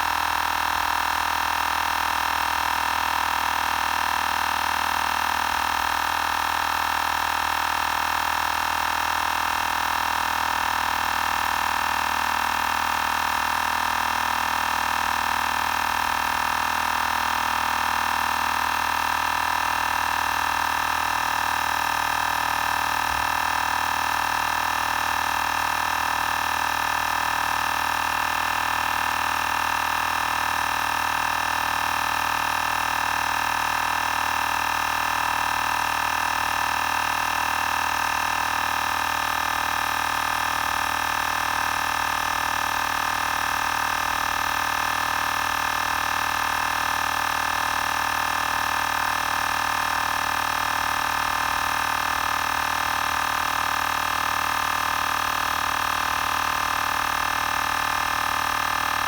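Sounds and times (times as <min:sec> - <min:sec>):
air compressor running: 0:00.0 - 0:59.0.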